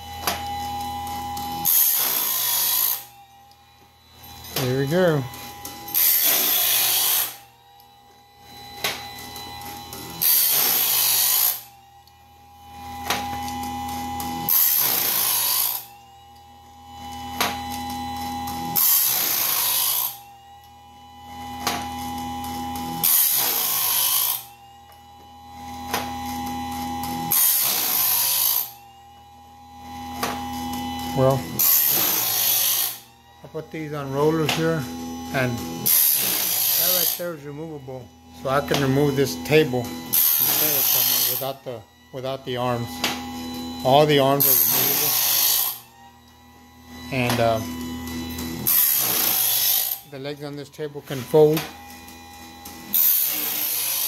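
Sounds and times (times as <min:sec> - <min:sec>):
grinding wheel on saw teeth: 0:00.0 - 0:16.4, 0:17.0 - 0:54.0
motors humming: 0:00.0 - 0:54.0.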